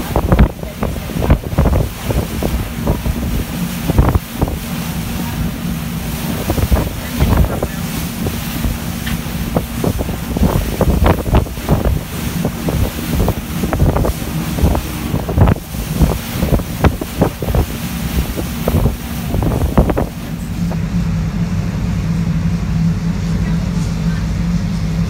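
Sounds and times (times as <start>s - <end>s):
wind buffeting microphone: 0.0s - 20.9s
boat engine drone: 0.0s - 25.0s
rushing water: 0.0s - 25.0s.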